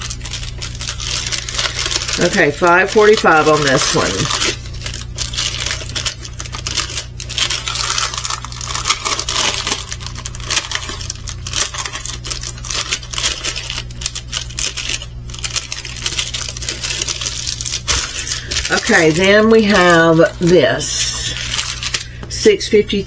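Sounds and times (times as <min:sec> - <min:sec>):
plastic packaging crinkling: 0:00.0 - 0:23.0
steady low hum: 0:00.0 - 0:23.0.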